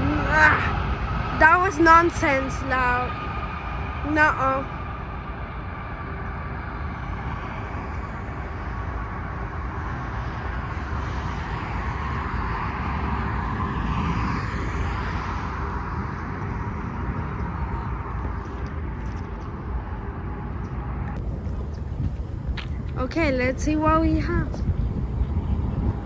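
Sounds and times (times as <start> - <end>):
jet engine rumble and whine: 0.0 - 26.0.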